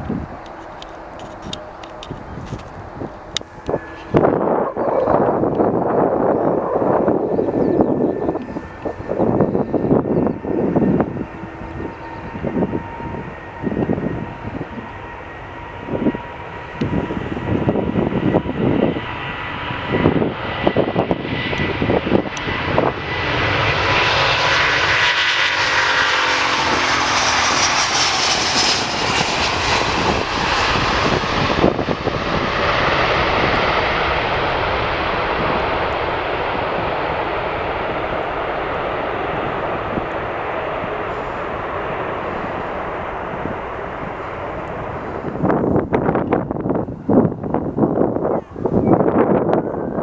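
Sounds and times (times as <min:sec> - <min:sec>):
jet engines roaring: 0:00.0 - 0:50.0
wind buffeting microphone: 0:00.0 - 0:50.0.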